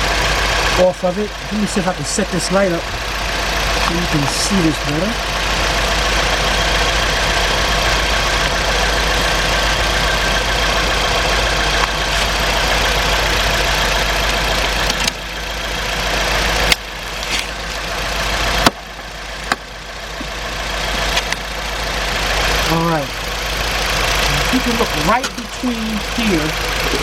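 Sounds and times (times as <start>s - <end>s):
steady mechanical drone: 0.0s - 27.0s.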